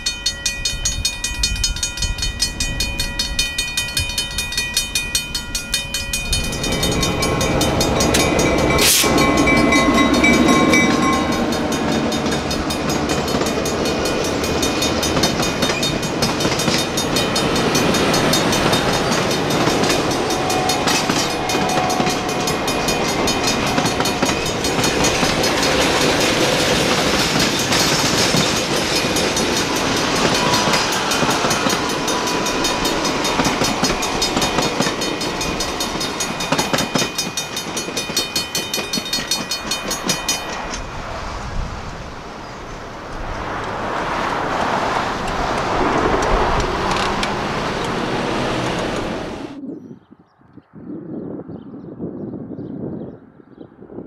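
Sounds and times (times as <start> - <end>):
crossing bell ringing: 0.0 - 49.6
train wheels rumbling and clattering: 0.0 - 49.6
rushing noise: 5.5 - 49.6.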